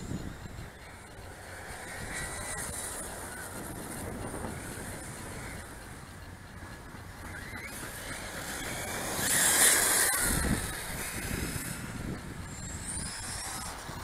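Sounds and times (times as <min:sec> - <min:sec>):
model car motor whine: 0:00.0 - 0:14.0.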